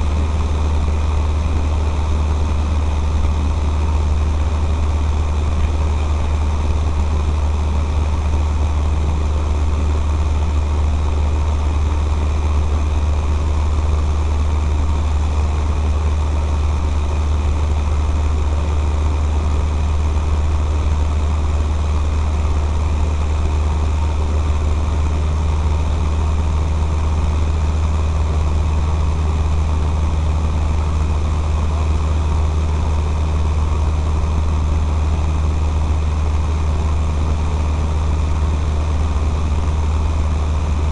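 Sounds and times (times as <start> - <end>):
airplane engine droning in flight: 0.0 - 40.9.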